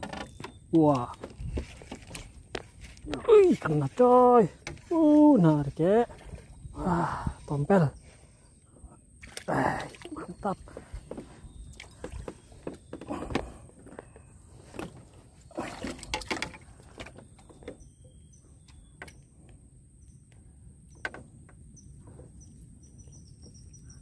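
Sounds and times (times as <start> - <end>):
knocks and rustling on bamboo raft: 0.0 - 7.7, 8.3 - 19.5, 20.9 - 24.0.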